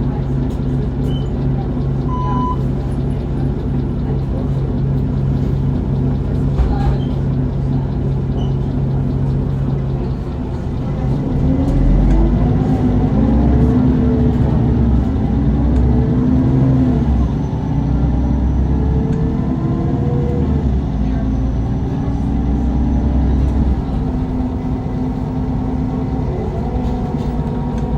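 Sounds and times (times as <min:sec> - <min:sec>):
bus engine pulling away: 0:00.0 - 0:27.9.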